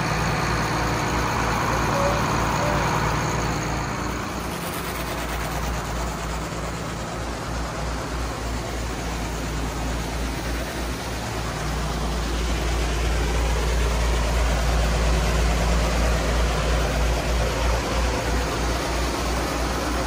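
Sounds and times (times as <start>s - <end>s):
broad rushing noise: 0.0s - 20.0s
diesel engine droning: 0.0s - 20.0s.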